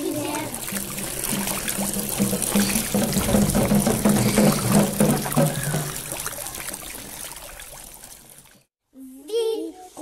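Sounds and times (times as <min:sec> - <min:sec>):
water sloshing and pouring: 0:00.0 - 0:08.7.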